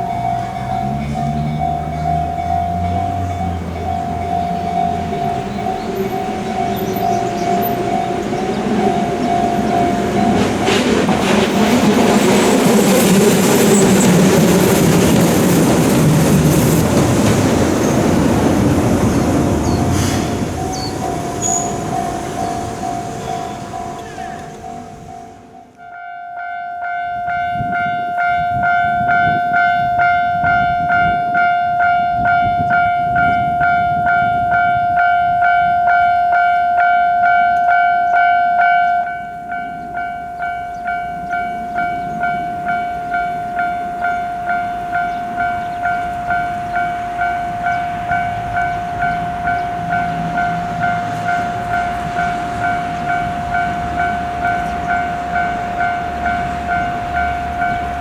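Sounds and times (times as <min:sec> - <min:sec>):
level crossing bell ringing: 0:00.0 - 0:10.8, 0:20.6 - 0:58.0
passing train rumble: 0:00.0 - 0:58.0.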